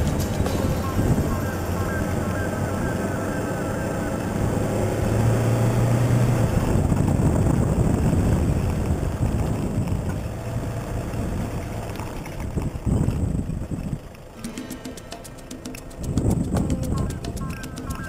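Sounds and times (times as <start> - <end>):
rough rumble of truck off-road: 0.0 - 18.0
truck engine: 0.0 - 18.0.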